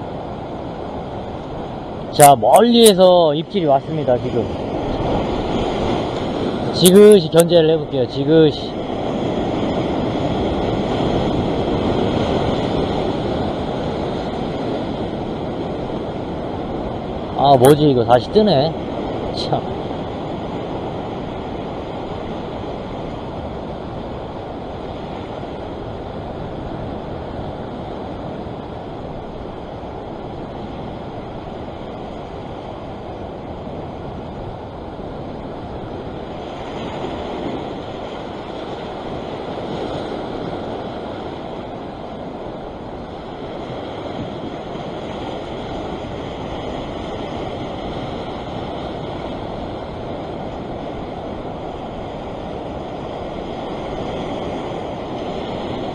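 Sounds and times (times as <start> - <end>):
surf breaking over rocks: 0.0 - 55.9
wind buffeting microphone: 0.0 - 55.9.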